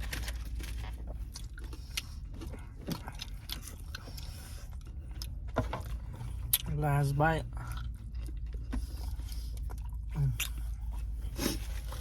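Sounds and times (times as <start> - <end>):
chewing and biting food: 0.0 - 12.0.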